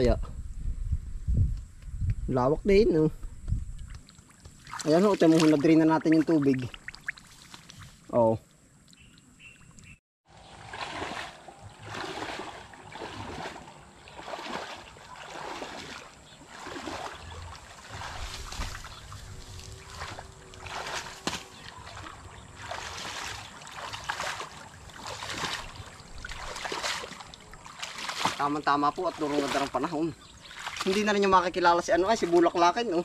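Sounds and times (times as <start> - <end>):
water splashing and sloshing: 3.7 - 33.0.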